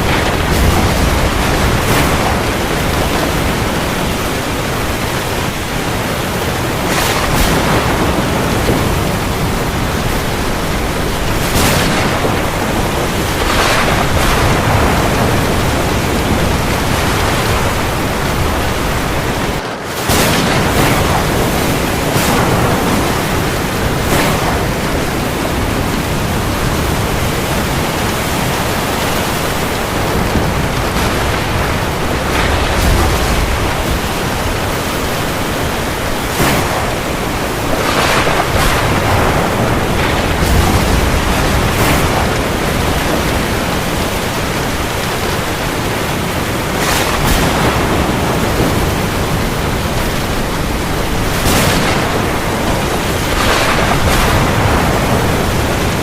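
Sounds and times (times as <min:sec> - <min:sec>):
heavy rain falling on the sea: 0:00.0 - 0:56.0.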